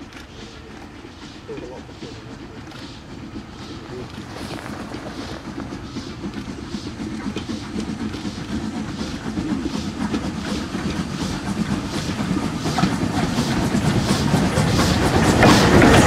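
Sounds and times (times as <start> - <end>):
rumble of wheels and wagons: 0.0 - 16.0
steam locomotive exhaust beating: 0.0 - 16.0.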